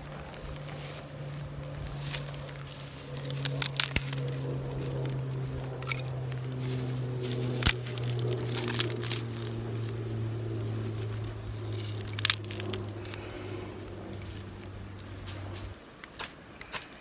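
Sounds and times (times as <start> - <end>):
low hum: 0.0 - 16.0
dry grass and twigs rustling: 0.0 - 17.0.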